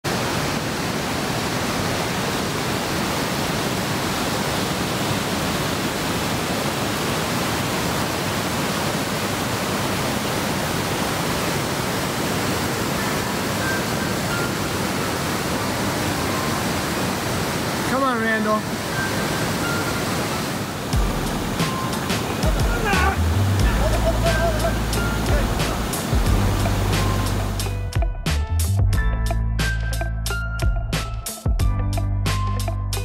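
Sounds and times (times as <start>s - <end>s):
creek rushing: 0.1s - 27.8s.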